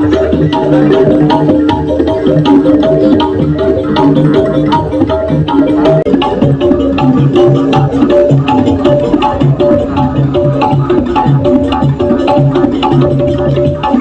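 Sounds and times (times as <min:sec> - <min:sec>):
loud music with drum beat: 0:00.0 - 0:14.0.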